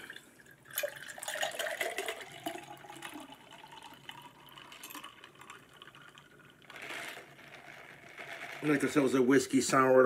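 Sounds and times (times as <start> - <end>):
drink pouring into glass: 0.0 - 8.8.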